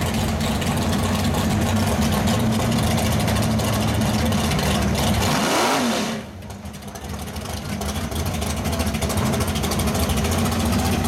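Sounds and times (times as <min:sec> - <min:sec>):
race car engine idling loudly: 0:00.0 - 0:05.4, 0:06.0 - 0:11.0.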